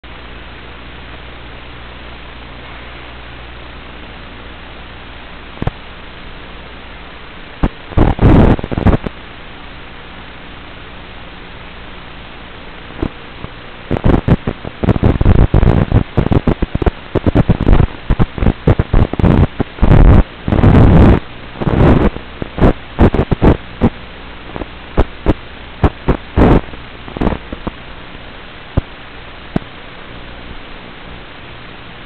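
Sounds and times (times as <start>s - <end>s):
loud crackling static: 0.0s - 32.0s
low hum: 0.0s - 32.0s
steady hiss: 0.1s - 32.0s.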